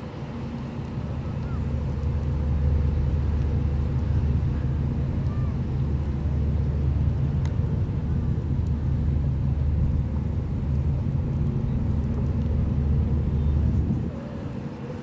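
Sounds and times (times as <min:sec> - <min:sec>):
ship engine rumbling: 0:00.0 - 0:15.0.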